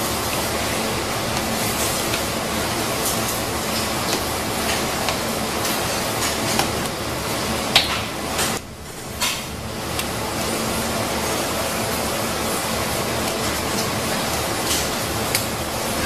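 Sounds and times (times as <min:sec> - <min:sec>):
workshop machinery hiss and hum: 0:00.0 - 0:16.0.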